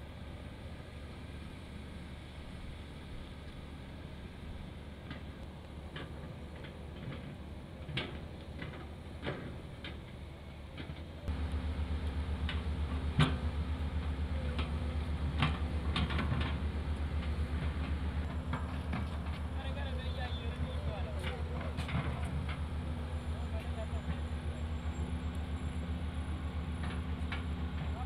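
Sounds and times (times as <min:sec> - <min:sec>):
engine pulsing hum: 0:00.0 - 0:28.0.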